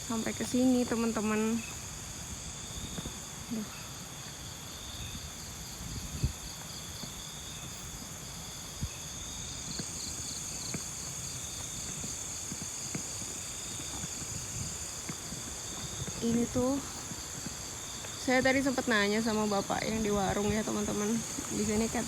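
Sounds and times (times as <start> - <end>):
crickets chirring: 0.0 - 22.0
wind rumble on microphone: 0.0 - 22.0.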